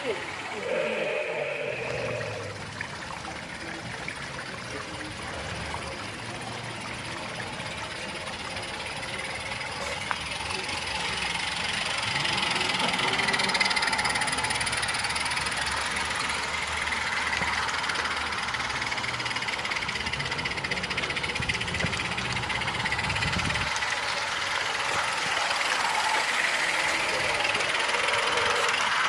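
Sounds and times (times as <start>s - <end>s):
model train running: 0.0s - 29.0s
steady background hum: 0.0s - 29.0s.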